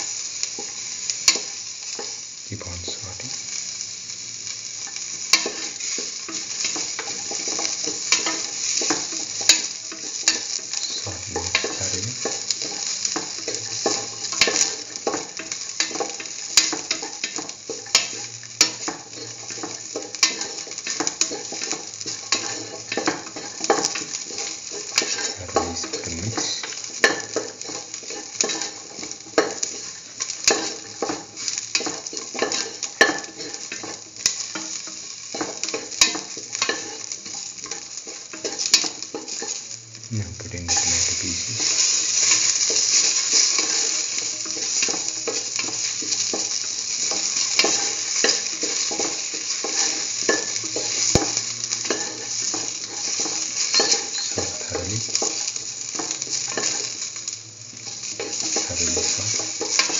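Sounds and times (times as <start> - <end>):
onions sizzling in hot oil: 0.0 - 59.9
spatula scraping and tapping pan: 4.8 - 39.6, 40.7 - 59.9.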